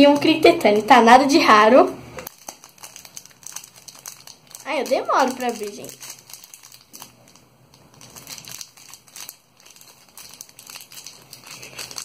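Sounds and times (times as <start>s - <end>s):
foil wrapper crinkling: 2.2s - 12.0s.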